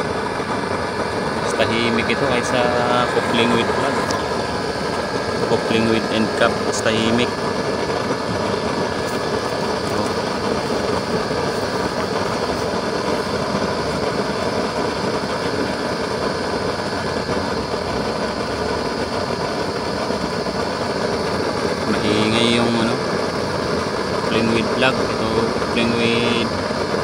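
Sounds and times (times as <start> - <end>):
oil burner flame rushing: 0.0 - 27.0.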